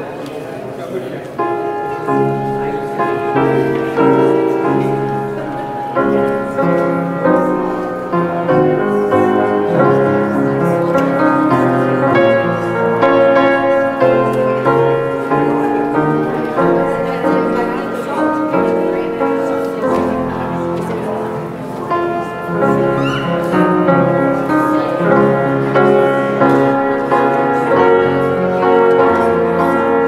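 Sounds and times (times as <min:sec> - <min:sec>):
grand piano playing slow chords: 0:01.3 - 0:30.0.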